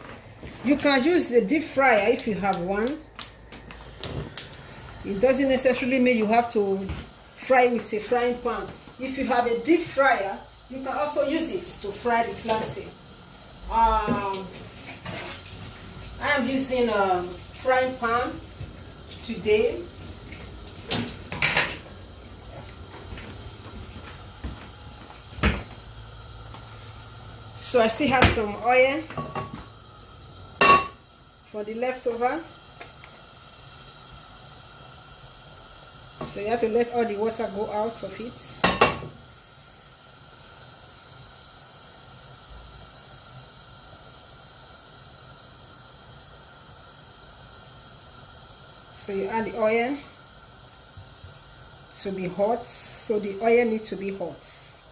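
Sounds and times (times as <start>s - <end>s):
gas burner hissing: 0.0s - 54.9s.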